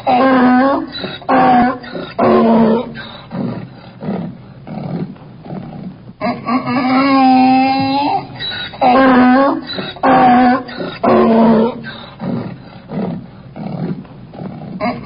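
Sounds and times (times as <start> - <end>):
donkey braying: 0.0 - 15.0
donkey gasping: 0.0 - 15.0.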